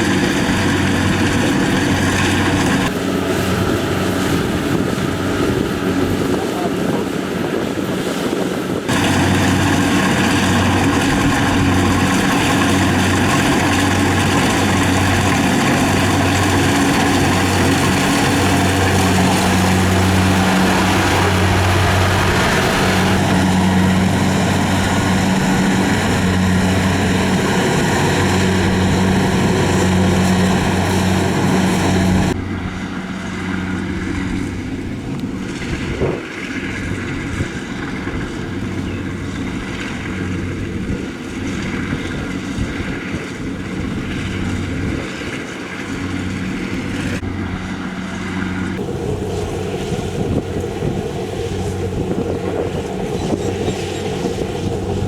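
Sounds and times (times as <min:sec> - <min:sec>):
machinery whirring: 0:00.0 - 0:35.4, 0:45.8 - 0:55.0
harvester engine hum: 0:00.0 - 0:55.0.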